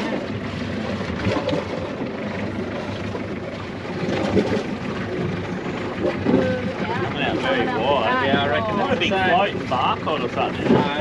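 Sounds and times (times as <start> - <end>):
sea noise: 0.0 - 11.0.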